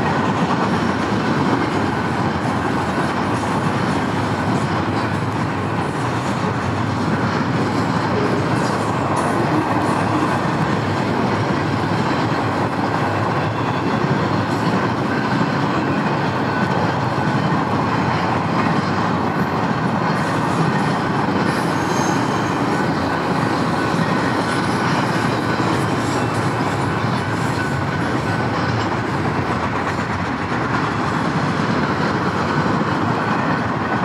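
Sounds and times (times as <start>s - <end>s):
freight train rolling on rails: 0.0s - 34.0s.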